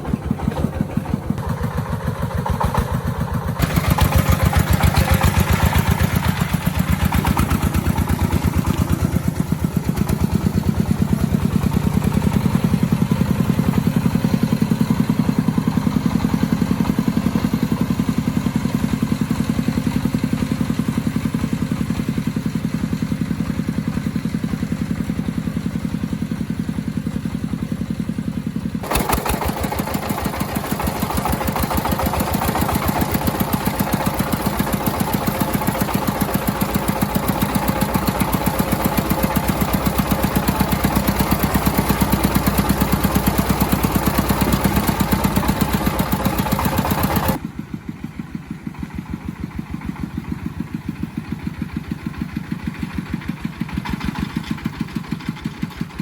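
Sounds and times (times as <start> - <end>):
tractor engine chugging: 0.0 - 56.0.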